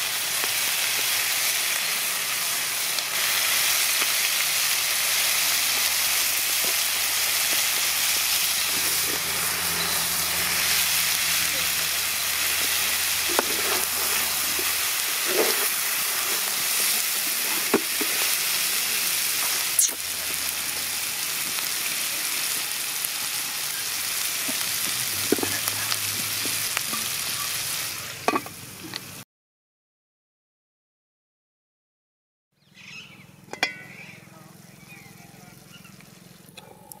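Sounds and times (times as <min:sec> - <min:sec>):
chicken frying in a pot: 0:00.0 - 0:29.2, 0:33.5 - 0:36.5.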